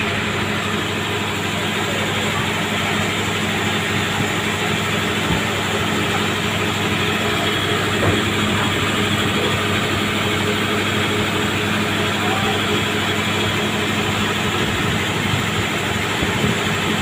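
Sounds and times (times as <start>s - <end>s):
ship engines droning: 0.0s - 17.0s.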